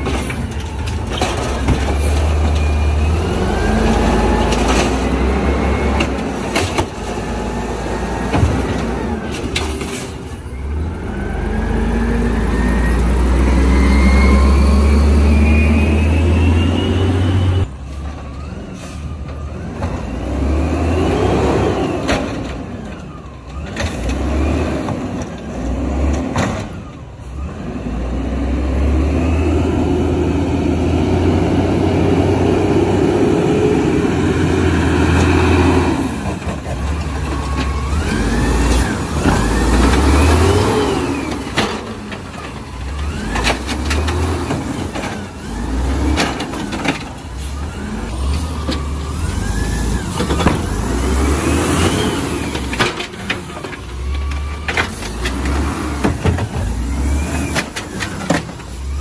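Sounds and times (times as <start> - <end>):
garbage truck engine: 0.0 - 59.0.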